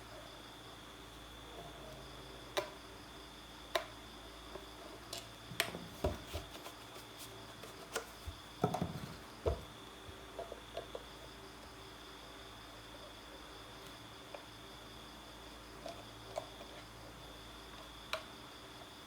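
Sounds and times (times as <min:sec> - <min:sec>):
faint high-pitched hum: 0:00.0 - 0:19.0.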